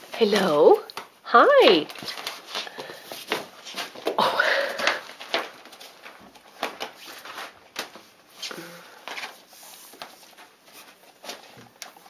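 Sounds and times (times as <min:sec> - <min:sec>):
kittens scrambling on fabric: 0:00.0 - 0:12.0.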